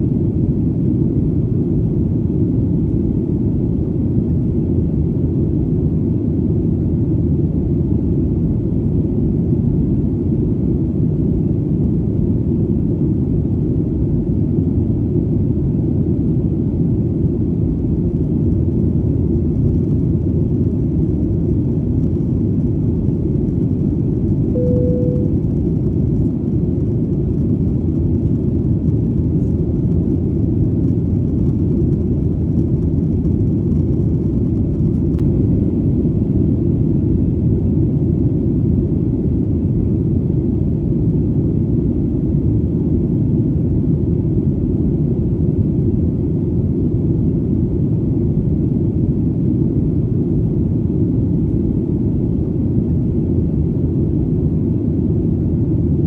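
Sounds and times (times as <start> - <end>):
airplane droning in flight: 0.0 - 56.0.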